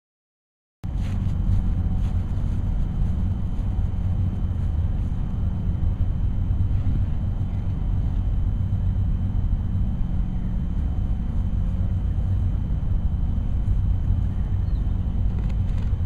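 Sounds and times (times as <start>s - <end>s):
wind buffeting microphone: 0.9s - 16.0s.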